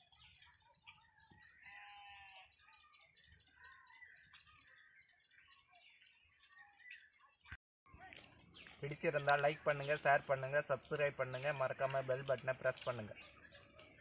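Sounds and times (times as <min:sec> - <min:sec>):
faint bird chirps: 0:00.0 - 0:14.0
insects droning: 0:00.0 - 0:14.0.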